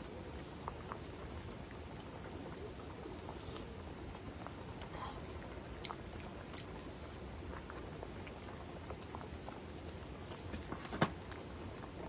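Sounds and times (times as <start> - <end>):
stew bubbling: 0.0 - 12.0.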